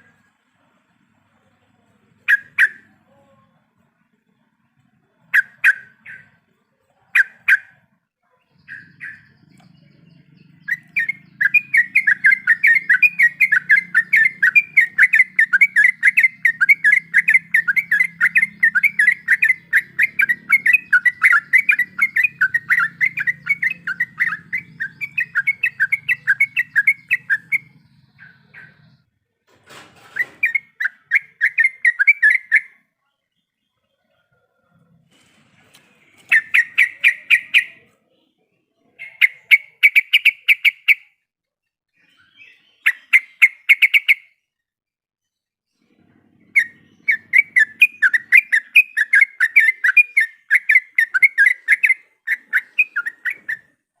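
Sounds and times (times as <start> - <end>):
bulbul singing: 1.7 - 29.2, 30.1 - 34.0, 36.0 - 41.2, 42.0 - 44.6, 46.4 - 54.0.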